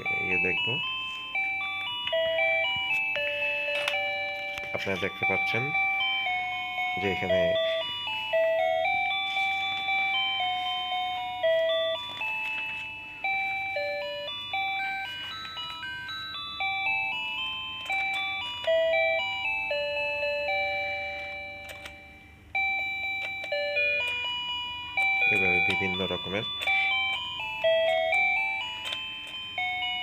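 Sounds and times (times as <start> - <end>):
electronic chime melody: 0.0 - 30.0.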